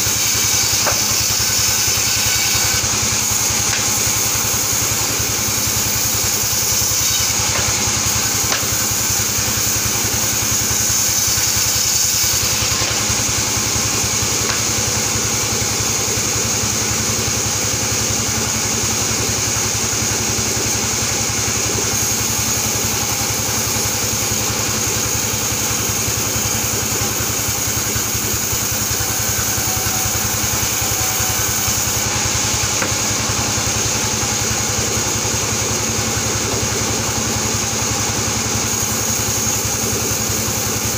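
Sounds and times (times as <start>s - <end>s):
band saw cutting wood: 0.0s - 40.9s.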